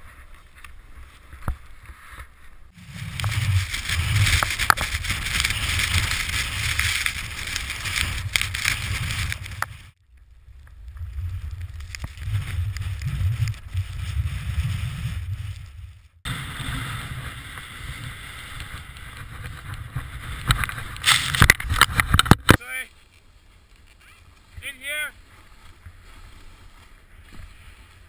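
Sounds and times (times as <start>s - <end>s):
snowboard sliding through snow: 0.0s - 10.0s, 10.8s - 22.2s, 22.8s - 28.0s
wind rumbling on microphone: 0.0s - 22.6s.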